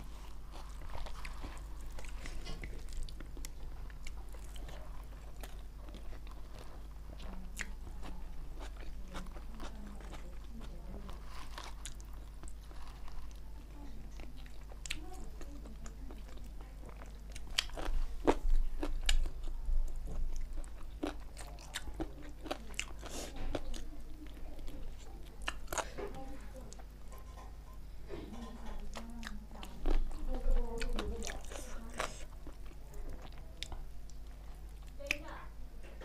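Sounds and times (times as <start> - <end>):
person chewing food: 0.0 - 35.3.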